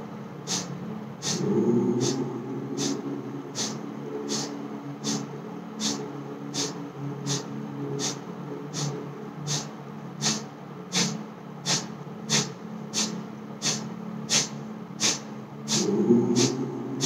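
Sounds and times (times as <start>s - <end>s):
low steady hum: 0.0s - 17.0s
forceful nasal exhalations: 0.5s - 17.0s.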